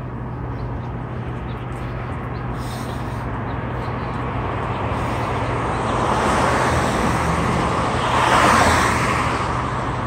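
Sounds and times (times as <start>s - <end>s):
vehicle passing on street: 0.0s - 10.0s.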